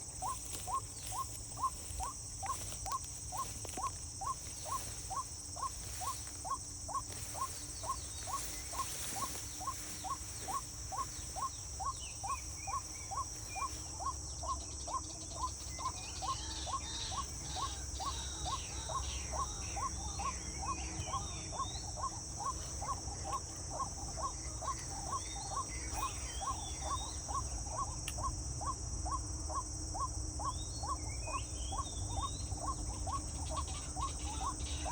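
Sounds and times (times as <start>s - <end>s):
birds chirping: 0.0s - 34.9s
insects droning: 0.0s - 34.9s.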